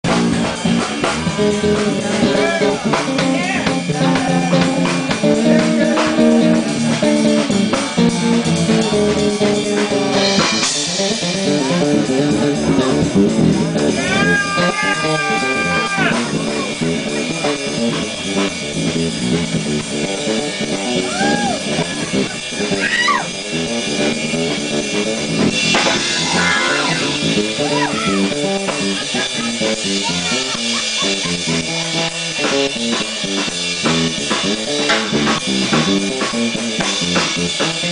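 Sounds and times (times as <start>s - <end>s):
drum kit: 0.0s - 37.9s
electric bass: 0.0s - 37.9s
keyboards: 0.0s - 37.9s
sliding lead melody: 0.0s - 37.9s.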